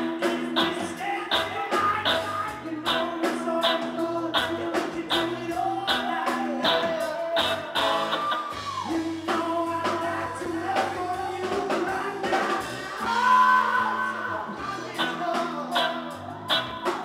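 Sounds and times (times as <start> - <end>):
drum kit beat: 0.0 - 17.0
electric guitars: 0.0 - 17.0
man singing: 0.0 - 17.0.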